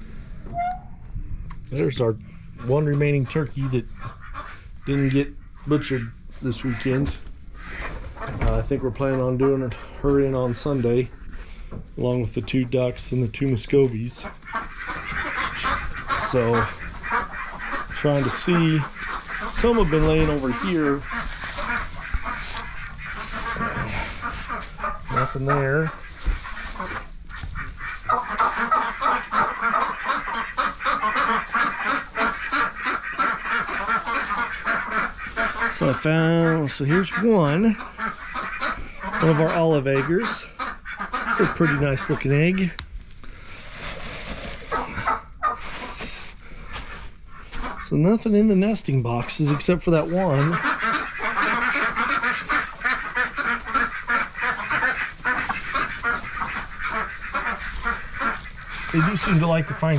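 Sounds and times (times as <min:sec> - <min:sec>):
chickens and ducks calling: 0:00.0 - 0:59.9.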